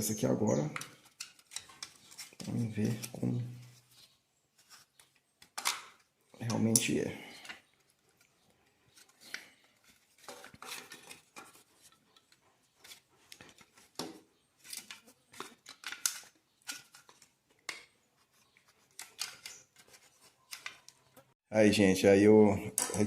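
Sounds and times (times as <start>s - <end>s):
plastic and metal clicks and scrapes: 0.7s - 3.3s, 4.6s - 21.3s.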